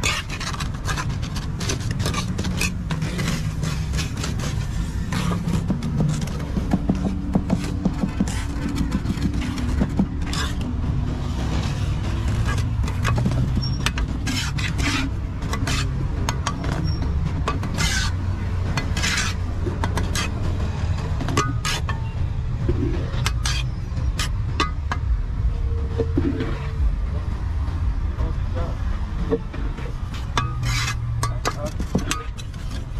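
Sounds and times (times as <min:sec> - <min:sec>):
trowel scraping wet concrete: 0:00.0 - 0:22.1, 0:22.8 - 0:24.8, 0:29.8 - 0:32.9
steady low rumble: 0:00.5 - 0:32.9.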